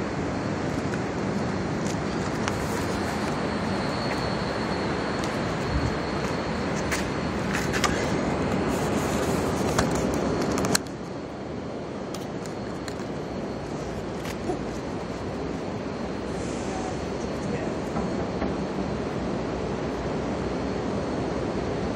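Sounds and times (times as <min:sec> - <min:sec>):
city traffic noise: 0:00.0 - 0:21.9.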